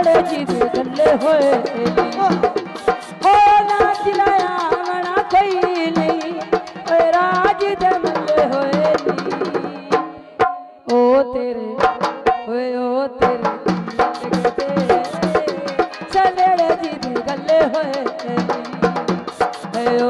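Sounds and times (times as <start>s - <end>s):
dhol drum strokes: 0.0s - 20.0s.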